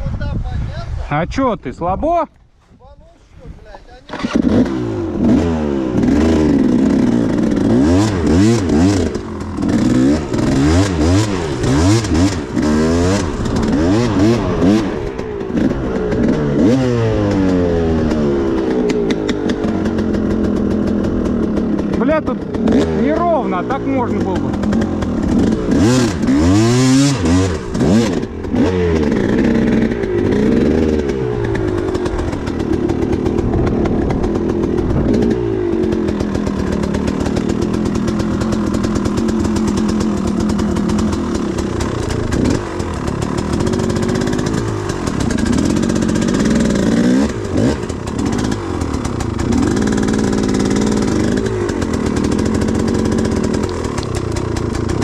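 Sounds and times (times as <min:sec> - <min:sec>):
motorcycle engine revving: 0:03.9 - 0:55.0.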